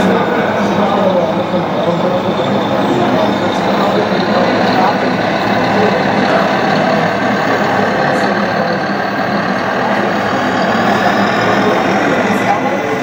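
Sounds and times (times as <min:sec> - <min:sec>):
hall noise: 0:00.0 - 0:13.0.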